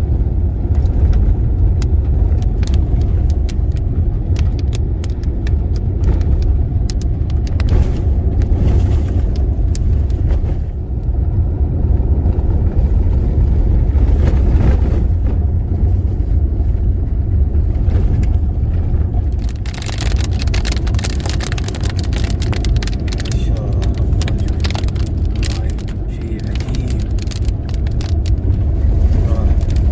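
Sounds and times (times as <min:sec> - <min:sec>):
car driving rumble from inside: 0:00.0 - 0:29.9
heavy rain hitting car: 0:00.0 - 0:29.9.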